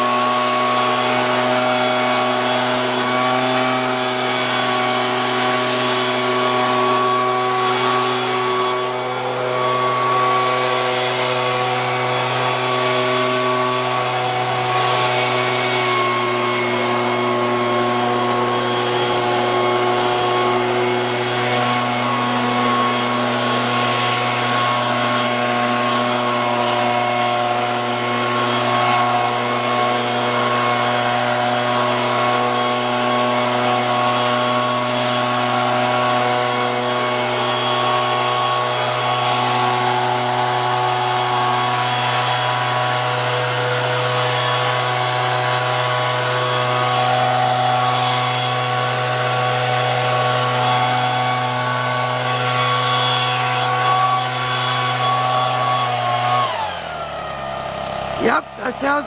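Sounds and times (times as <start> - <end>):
leaf blower running: 0.0 - 59.0.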